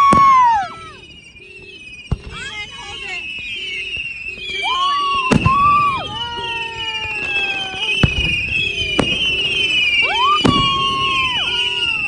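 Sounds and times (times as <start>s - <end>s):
high gliding firework whistles: 0.0s - 12.0s.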